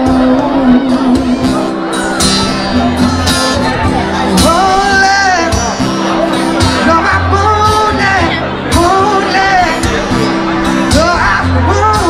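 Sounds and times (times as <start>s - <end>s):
crowd noise: 0.0s - 12.0s
live band music: 0.0s - 12.0s
person singing: 0.0s - 12.0s.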